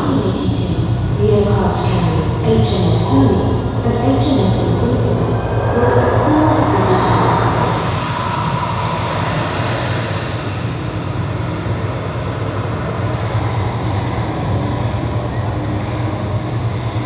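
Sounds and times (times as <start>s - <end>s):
heavy engines rumbling: 0.0s - 17.0s.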